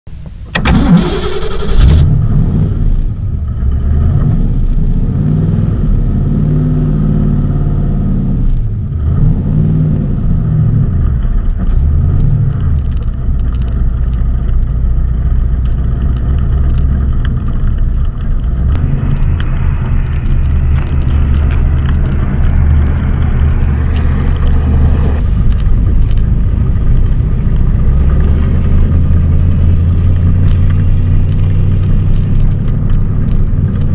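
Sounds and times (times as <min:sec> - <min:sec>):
car engine starting and revving: 0:00.3 - 0:33.9.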